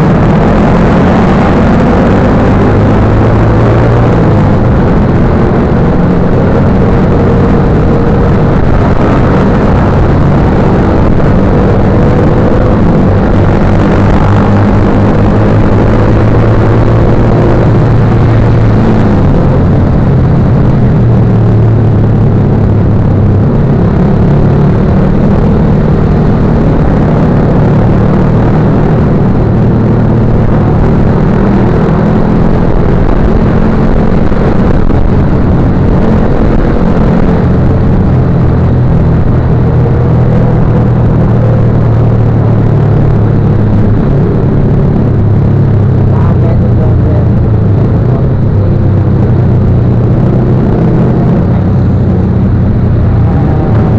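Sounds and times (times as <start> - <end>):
motorcycle engine running: 0.0 - 53.9
wind rushing on microphone: 0.0 - 53.9.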